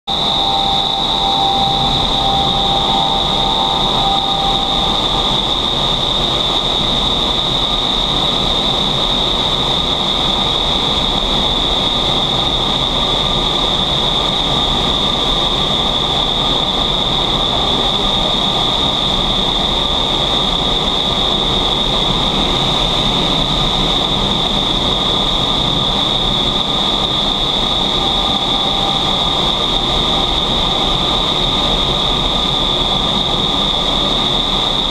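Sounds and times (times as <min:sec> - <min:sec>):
constant high whine: 0:00.0 - 0:34.9
rush of high-speed air: 0:00.1 - 0:34.9.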